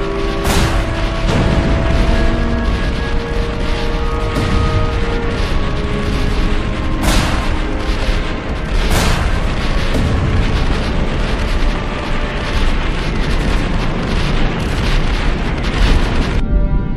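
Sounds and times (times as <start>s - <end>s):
dense rumbling sound effects: 0.0s - 16.9s
film music: 0.0s - 16.9s.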